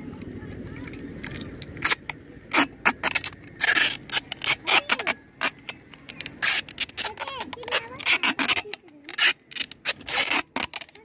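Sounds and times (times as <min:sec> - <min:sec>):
tape pulled off roll: 0:00.0 - 0:11.0.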